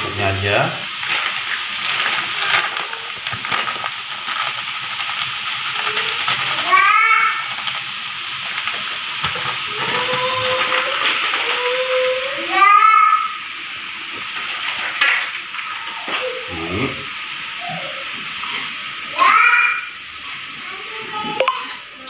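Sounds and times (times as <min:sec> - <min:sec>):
stir-fry sizzling in a wok: 0:00.0 - 0:22.0.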